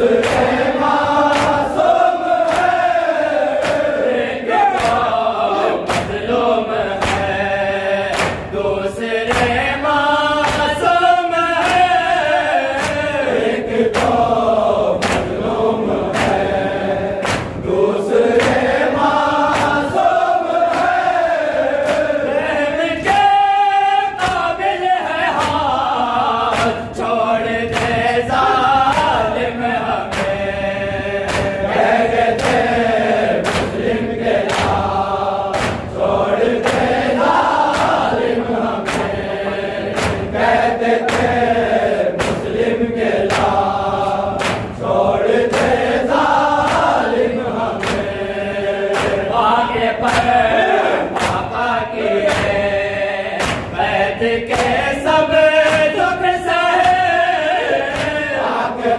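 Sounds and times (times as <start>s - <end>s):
men chanting in unison: 0.0s - 58.9s
rhythmic chest-beating: 0.0s - 58.9s.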